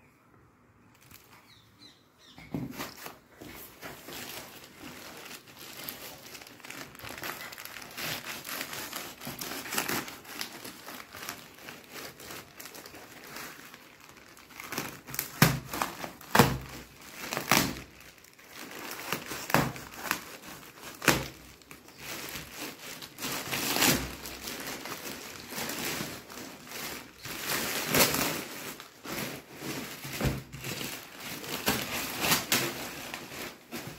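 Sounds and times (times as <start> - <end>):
plastic bag crinkling and tearing: 0.9 - 1.4, 2.7 - 33.9.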